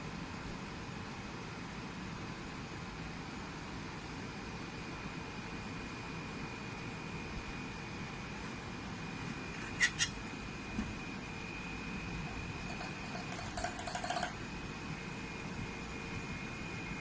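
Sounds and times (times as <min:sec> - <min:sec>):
steady hum with high whine: 0:00.0 - 0:17.0.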